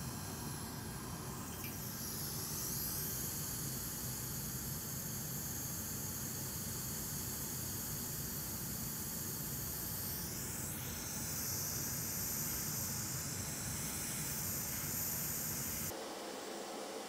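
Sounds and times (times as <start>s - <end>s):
hot air rework station hissing: 0.0s - 17.0s.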